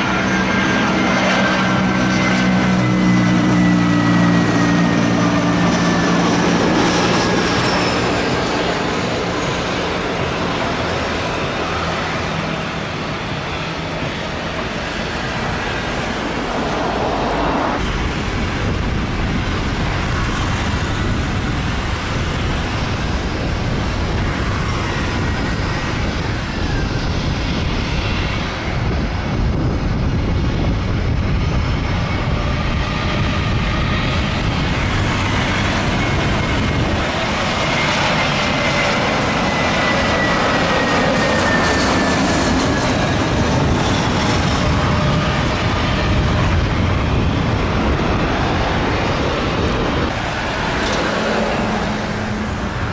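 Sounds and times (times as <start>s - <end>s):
jet engines running: 0.0s - 52.9s
deep rumble: 1.7s - 52.9s.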